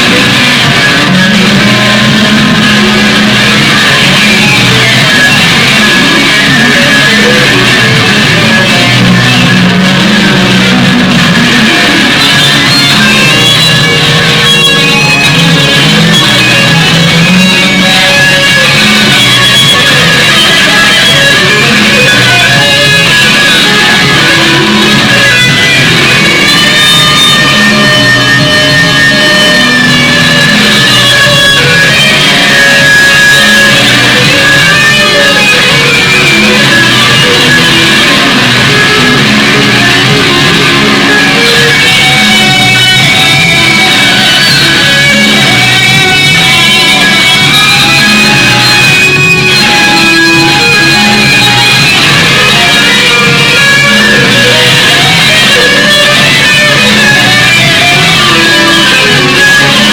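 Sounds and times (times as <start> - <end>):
loud rock guitar music: 0.0 - 59.9.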